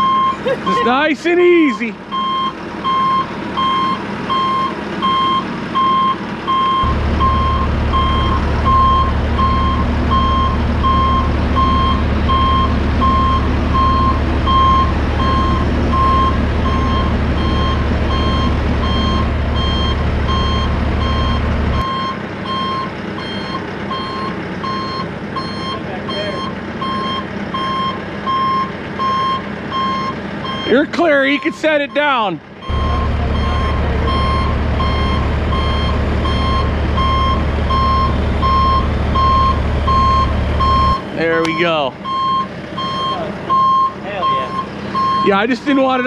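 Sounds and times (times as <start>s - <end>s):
deep engine drone: 0.0s - 46.0s
forklift backup alarm beeping: 0.0s - 46.0s.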